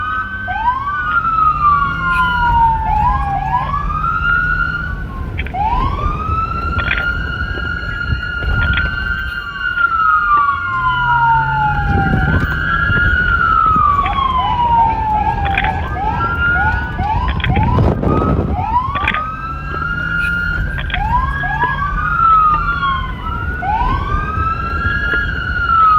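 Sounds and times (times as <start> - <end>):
police sirens wailing: 0.0 - 25.9.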